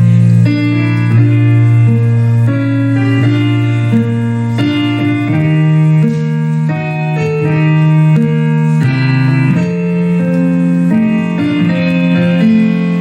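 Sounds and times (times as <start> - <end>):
held bass: 0.0 - 13.0
keyboard playing slow chords: 0.0 - 13.0.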